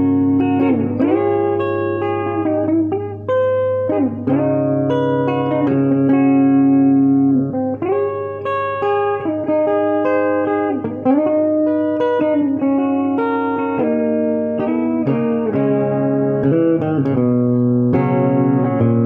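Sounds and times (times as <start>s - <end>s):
electric guitar solo: 0.0s - 19.0s.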